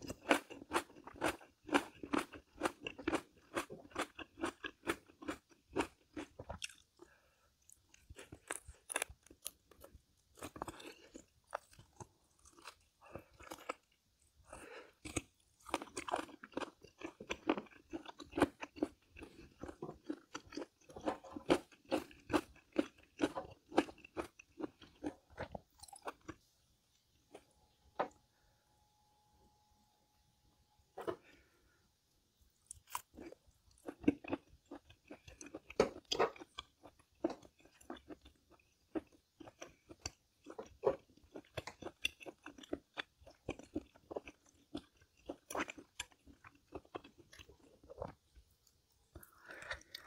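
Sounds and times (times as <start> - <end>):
person chewing crunchy food: 0.0 - 28.4, 32.6 - 50.0.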